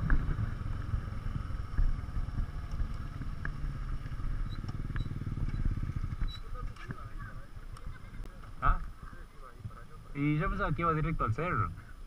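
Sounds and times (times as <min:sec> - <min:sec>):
motorcycle engine running: 0:00.0 - 0:11.9
light wind noise: 0:00.0 - 0:12.0.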